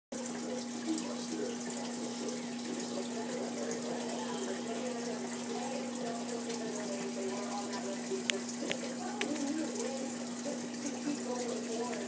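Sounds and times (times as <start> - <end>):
pump humming: 0.1 - 12.0
water trickling and splashing: 0.1 - 12.0.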